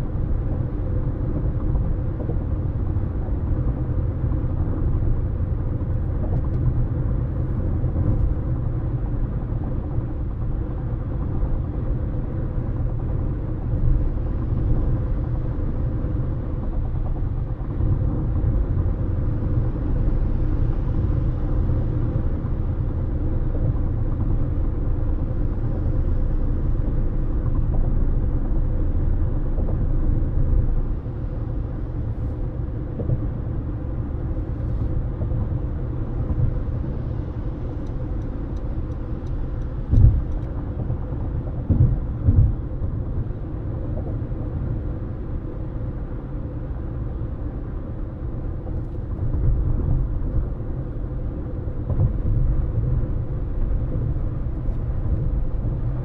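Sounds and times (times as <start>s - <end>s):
car driving on highway: 0.0s - 56.0s
tyre and road noise: 10.8s - 56.0s.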